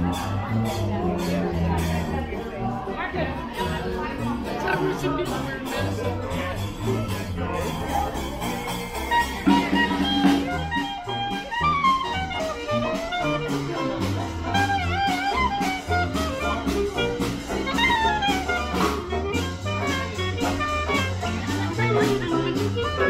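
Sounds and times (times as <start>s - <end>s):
dixieland jazz band playing: 0.0s - 23.0s.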